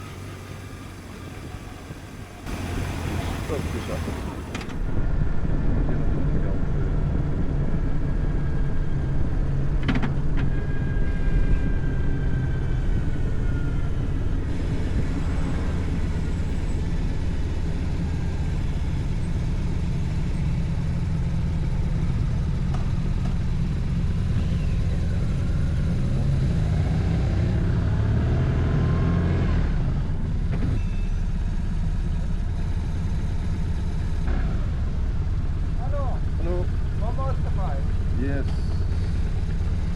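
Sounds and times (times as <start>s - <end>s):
motorcycle engine: 0.0s - 5.1s, 10.5s - 39.9s
road noise: 0.0s - 39.9s.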